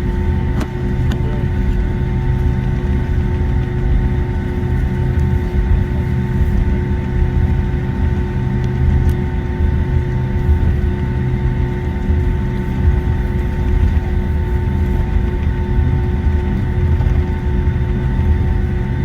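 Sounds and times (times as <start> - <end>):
jet engines humming: 0.0 - 19.0.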